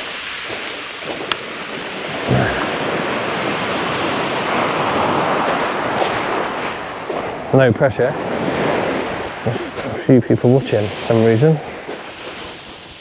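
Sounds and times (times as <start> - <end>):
waves washing over shingle: 0.0 - 13.0
wind buffeting microphone: 0.0 - 13.0.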